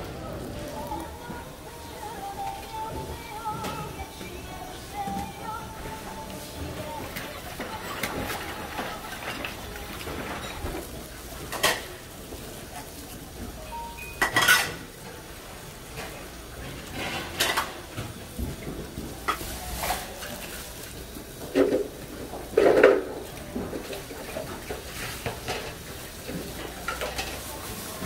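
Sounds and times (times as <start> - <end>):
plastic gloves and packaging rustling: 0.1 - 14.6, 15.2 - 28.0
kitchen clatter: 4.8 - 28.0.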